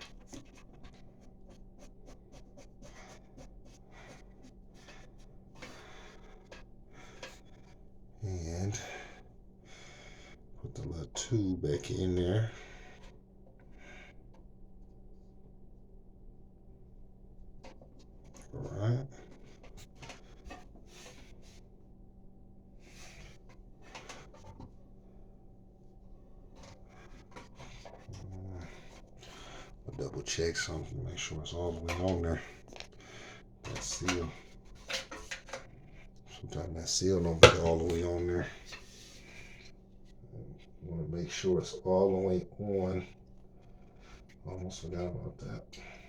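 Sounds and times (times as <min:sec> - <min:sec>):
steady low hum: 0:00.0 - 0:35.0, 0:35.6 - 0:46.0.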